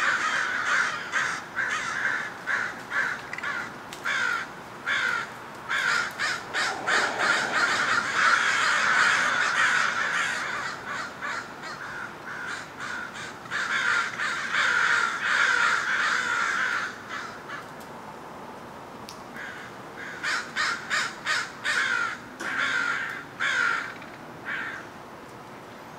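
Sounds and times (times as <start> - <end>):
crows cawing: 0.0 - 17.7, 19.3 - 24.9.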